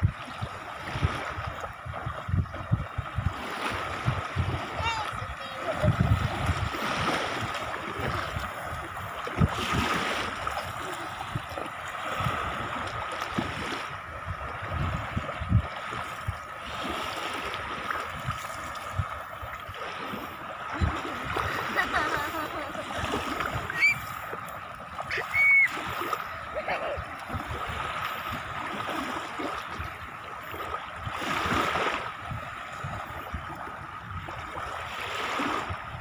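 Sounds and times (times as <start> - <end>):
small waves washing: 0.0 - 36.0
water splashes and thumps: 0.0 - 36.0.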